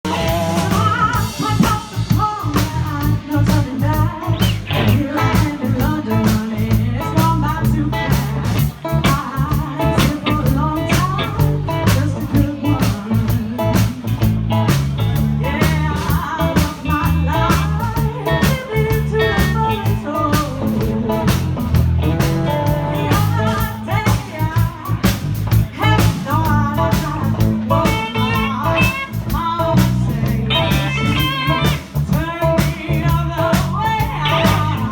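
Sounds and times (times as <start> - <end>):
blues band playing: 0.0 - 34.9
electric guitar: 0.0 - 34.9.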